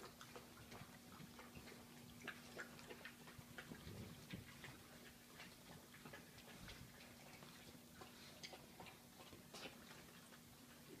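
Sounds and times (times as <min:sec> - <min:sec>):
faint steady hum: 0:00.0 - 0:11.0
puppies eating clicking: 0:00.0 - 0:11.0.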